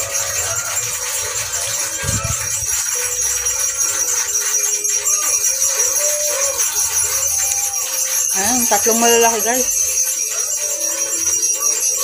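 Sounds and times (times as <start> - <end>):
shaker rattle: 0.0 - 12.0.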